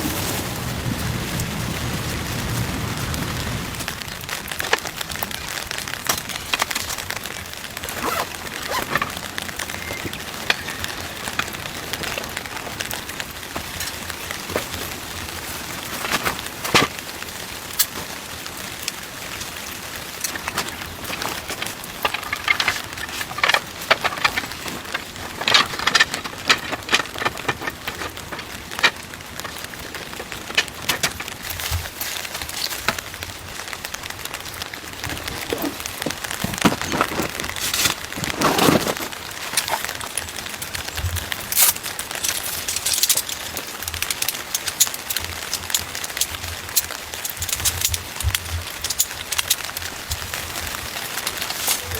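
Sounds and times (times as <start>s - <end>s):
heavy rain on a tent: 0.0s - 51.9s.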